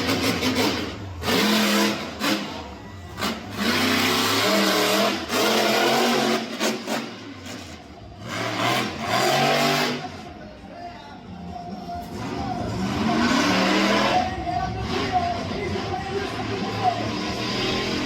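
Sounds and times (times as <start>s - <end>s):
monster truck engine revving: 0.0s - 10.4s, 12.0s - 18.0s.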